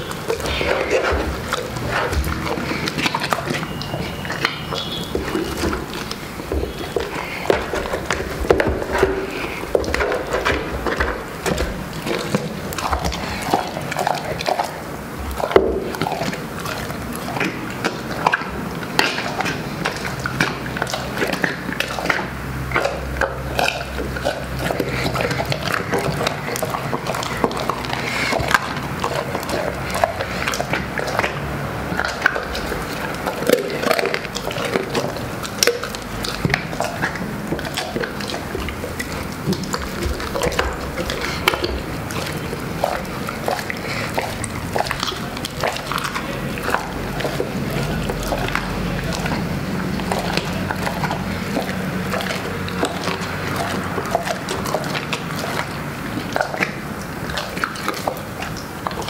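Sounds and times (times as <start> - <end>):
bones crunching: 0.0 - 59.0
dog chewing and smacking: 0.0 - 59.0.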